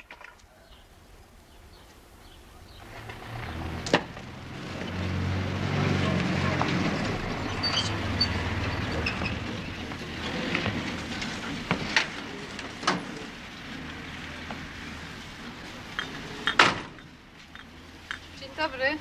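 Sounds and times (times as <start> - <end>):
van engine running low: 2.2 - 18.5.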